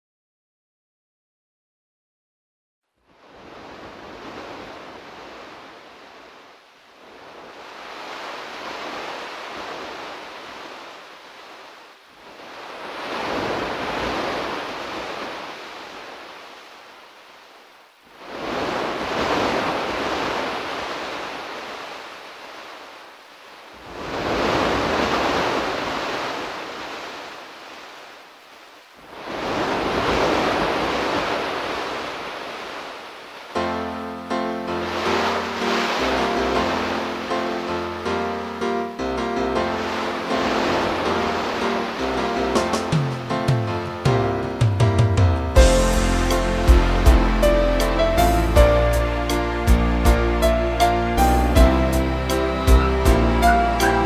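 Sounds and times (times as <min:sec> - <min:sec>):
ocean waves breaking: 0:03.0 - 0:54.0.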